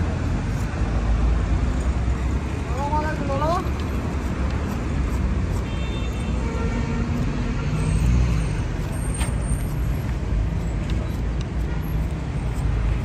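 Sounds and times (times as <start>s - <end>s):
road noise: 0.0s - 13.0s
vehicle engines rumbling: 0.0s - 13.0s.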